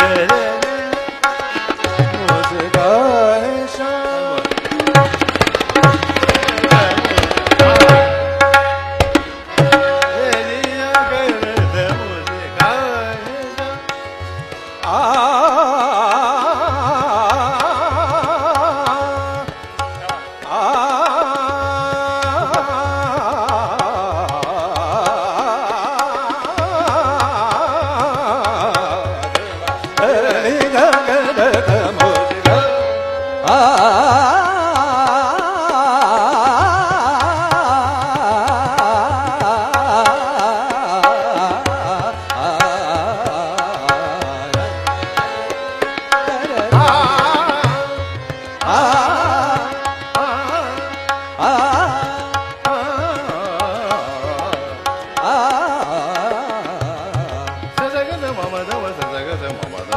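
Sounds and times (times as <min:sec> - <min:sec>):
harmonium: 0:00.0 - 0:59.9
man singing: 0:00.0 - 0:59.9
tabla: 0:00.0 - 0:59.9
tanpura drone: 0:00.0 - 0:59.9.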